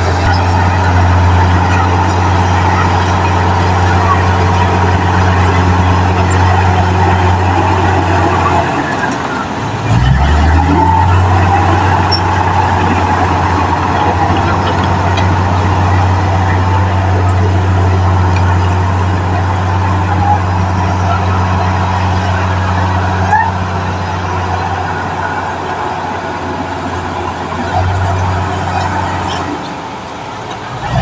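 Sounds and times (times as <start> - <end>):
heavy diesel engine humming: 0.0 - 31.0.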